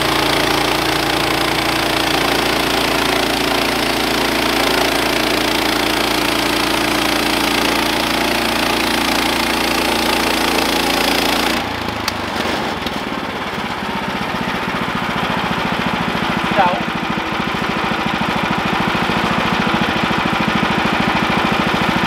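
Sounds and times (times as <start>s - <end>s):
bandsaw cutting log: 0.0s - 22.0s
gas engine running: 0.0s - 22.0s.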